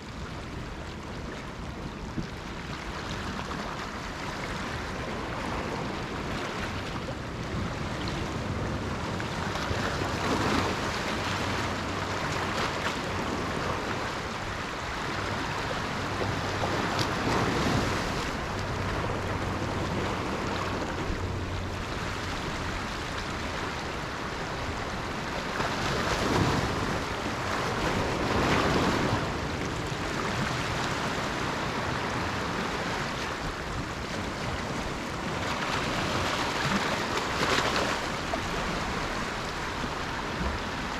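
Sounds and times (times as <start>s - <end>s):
waves breaking on shore: 0.0s - 40.9s.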